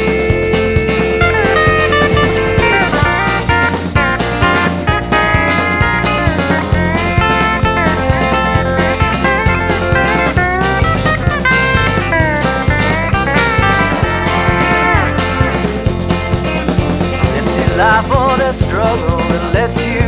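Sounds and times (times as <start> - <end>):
lead guitar bending notes: 0.0 - 19.2
steady drum beat: 0.0 - 20.0.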